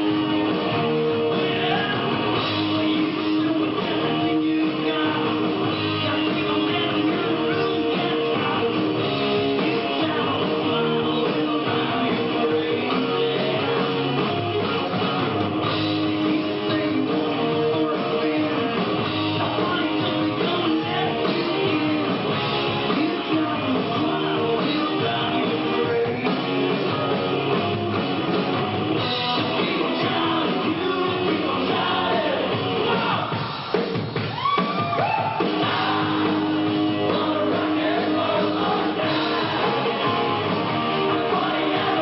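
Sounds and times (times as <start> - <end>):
person singing: 0.0 - 27.7, 29.1 - 33.4, 35.6 - 42.0
rock band playing live: 0.0 - 42.0.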